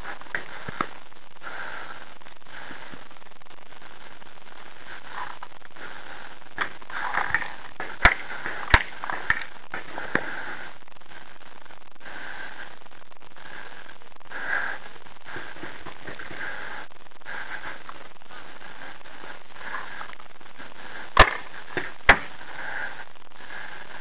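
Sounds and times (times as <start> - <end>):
breathing in a mask: 0.0 - 3.1, 4.8 - 11.3, 12.0 - 24.0
steady hiss: 0.0 - 24.0.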